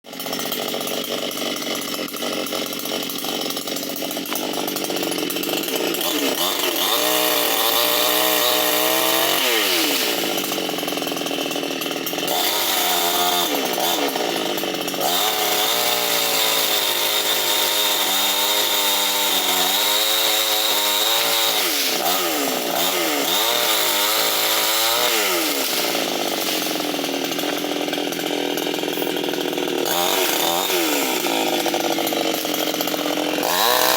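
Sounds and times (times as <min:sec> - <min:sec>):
chainsaw cutting branches: 0:00.0 - 0:33.9.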